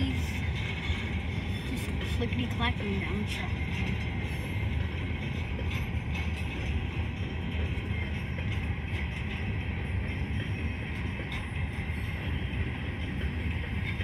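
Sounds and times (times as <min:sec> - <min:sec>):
train wheels rumbling: 0:00.0 - 0:14.0
wheels clacking over rail joints: 0:00.0 - 0:14.0.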